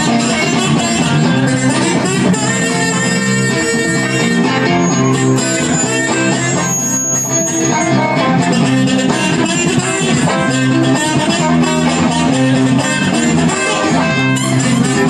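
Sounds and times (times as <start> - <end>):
guitar: 0.0 - 15.0
live band playing: 0.0 - 15.0.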